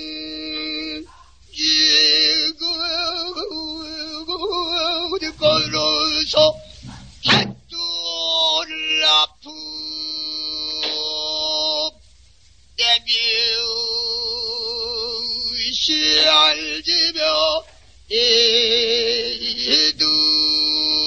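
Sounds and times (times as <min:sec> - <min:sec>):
solo voice singing with vibrato: 0:00.0 - 0:12.0, 0:12.8 - 0:21.0.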